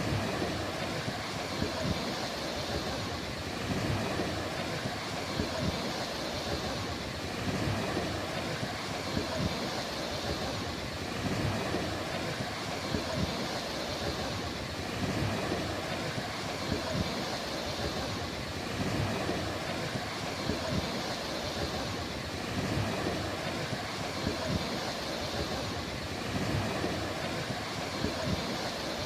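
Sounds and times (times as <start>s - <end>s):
sea waves washing onto shore: 0.0s - 29.0s.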